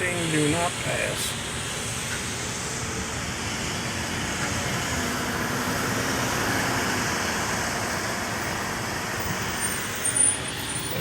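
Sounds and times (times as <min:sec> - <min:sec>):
road traffic rushing by: 0:00.0 - 0:11.0.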